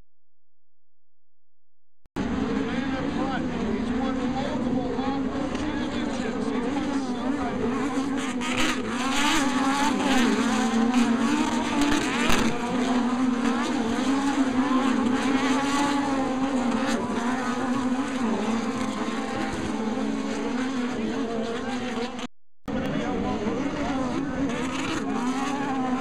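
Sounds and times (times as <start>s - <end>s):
racing buggy engines revving: 2.2s - 26.0s.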